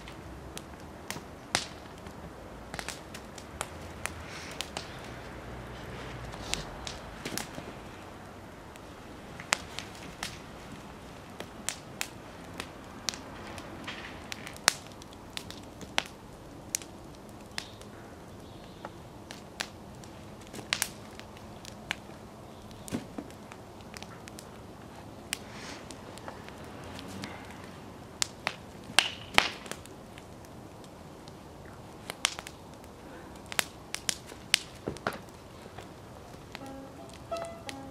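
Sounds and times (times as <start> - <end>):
low steady hiss: 0.0 - 37.9
wood fire crackling and popping: 0.0 - 37.9.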